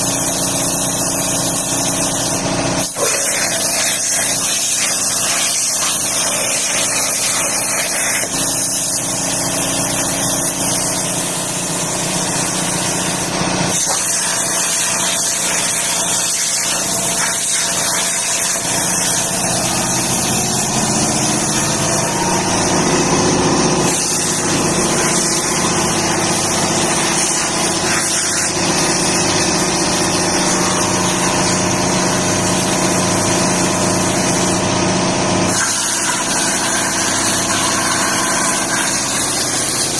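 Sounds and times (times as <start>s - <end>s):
plasma cutter hissing: 0.0s - 34.7s, 35.5s - 39.9s
machine hum: 2.1s - 39.9s.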